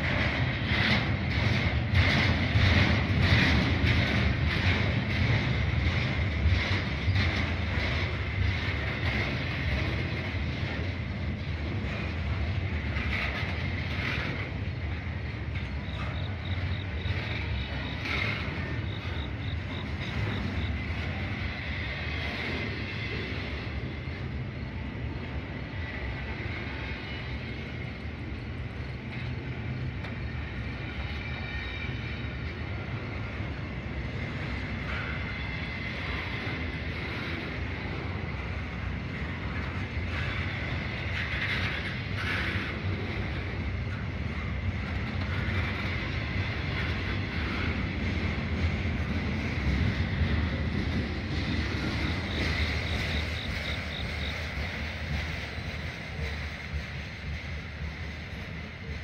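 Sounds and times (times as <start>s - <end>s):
freight train rolling on rails: 0.0s - 59.0s.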